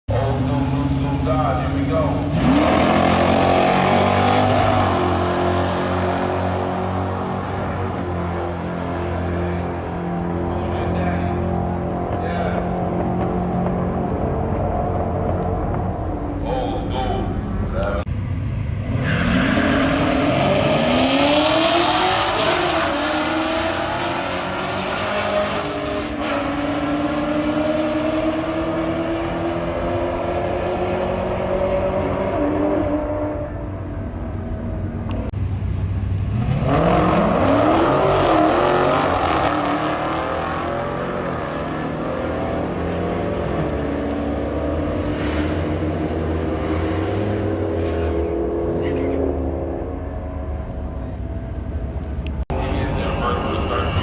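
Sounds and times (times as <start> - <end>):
car engine accelerating hard: 0.1 - 54.0.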